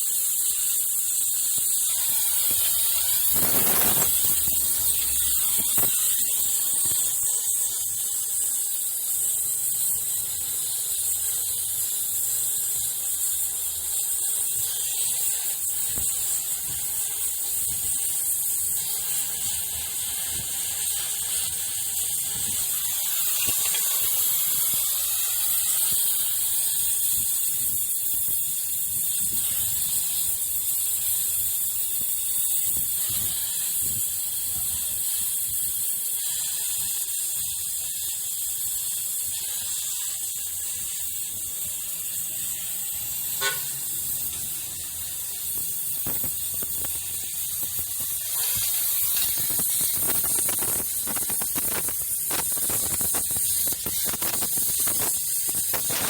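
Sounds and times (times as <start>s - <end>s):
welding torch flame hissing: 0.0s - 56.0s.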